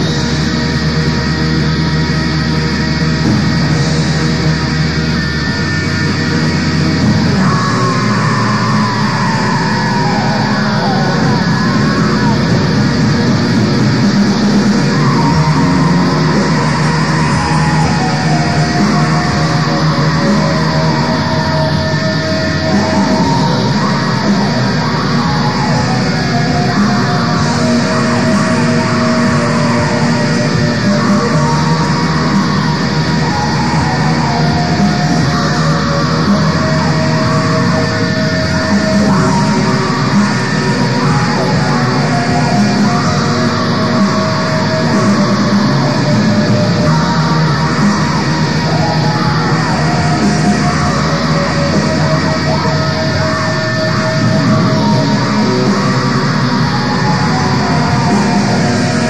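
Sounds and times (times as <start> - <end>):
distorted electric guitars: 0.0 - 59.0.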